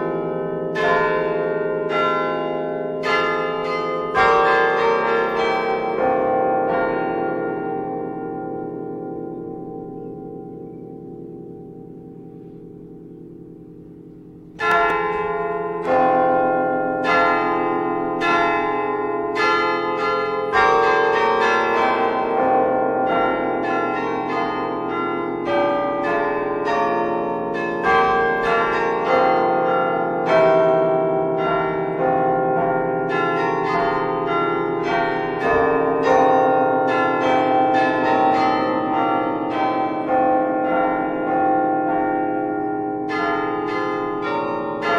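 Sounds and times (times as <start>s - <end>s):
bells ringing: 0.0s - 44.9s.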